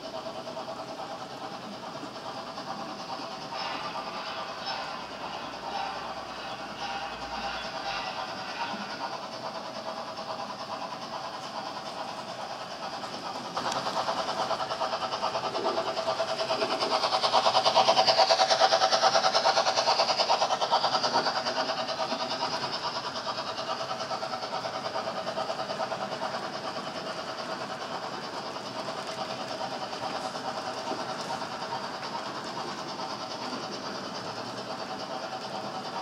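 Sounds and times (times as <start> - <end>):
model train whirring: 0.0 - 36.0
wheel rumble on track: 0.0 - 36.0.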